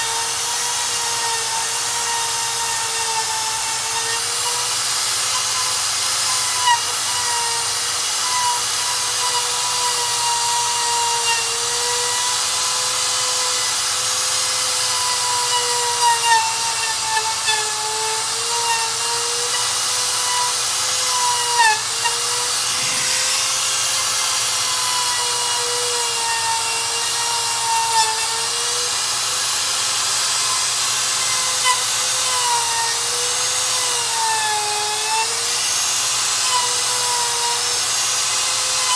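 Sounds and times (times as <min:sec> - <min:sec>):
electric router whining: 0:00.0 - 0:38.9.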